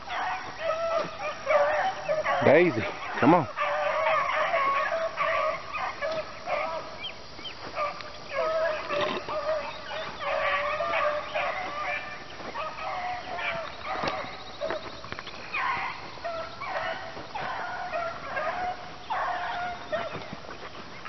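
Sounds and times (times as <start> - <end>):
hounds baying in chorus: 0.0 - 21.0.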